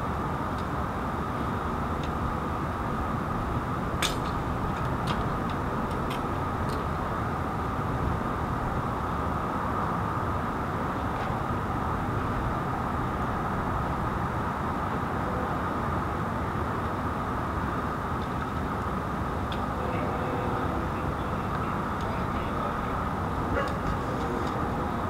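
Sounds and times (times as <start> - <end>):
idling vehicle engine rumble: 0.0 - 25.0.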